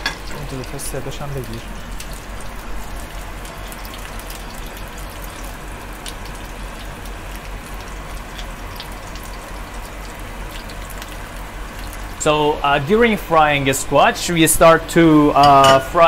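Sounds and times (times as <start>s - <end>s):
squash sizzling in hot oil: 0.0s - 16.0s.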